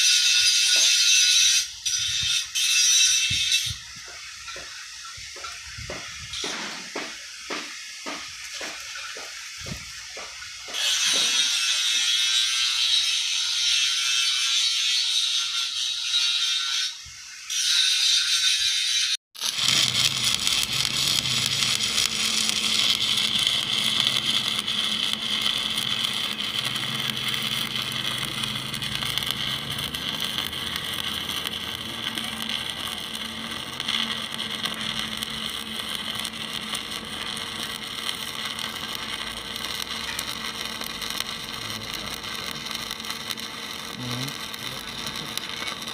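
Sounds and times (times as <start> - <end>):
welding arc crackling and hissing: 0.0 - 45.9.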